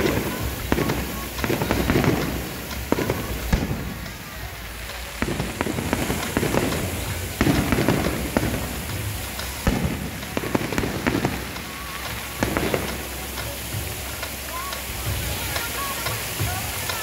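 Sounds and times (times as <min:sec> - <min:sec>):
firework shells bursting: 0:00.0 - 0:17.0
fireworks crackling hiss: 0:00.0 - 0:17.0.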